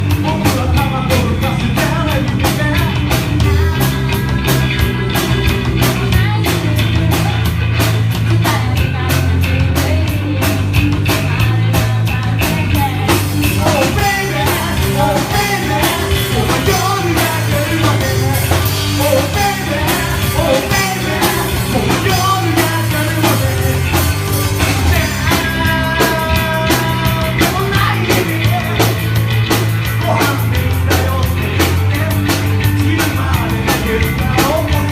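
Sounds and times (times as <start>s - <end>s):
bass guitar: 0.0s - 34.9s
drum kit: 0.0s - 34.9s
person singing: 0.1s - 29.2s, 29.9s - 34.9s.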